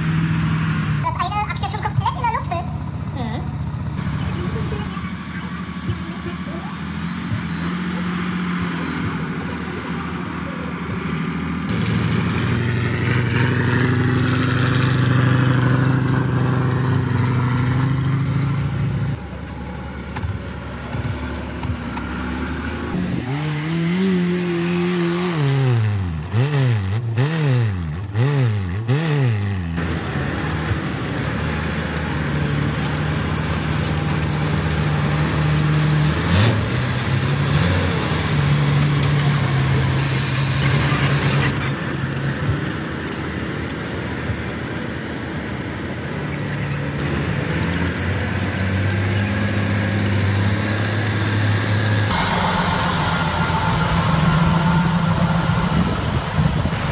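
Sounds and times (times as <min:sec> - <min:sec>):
truck engine running steadily: 0:00.0 - 0:25.0, 0:29.5 - 0:56.9
jeep engine revving: 0:00.0 - 0:56.9.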